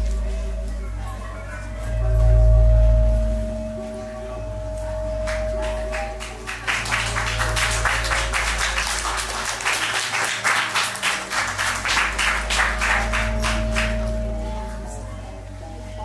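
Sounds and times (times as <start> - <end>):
electronic ambient drone: 0.0 - 16.0.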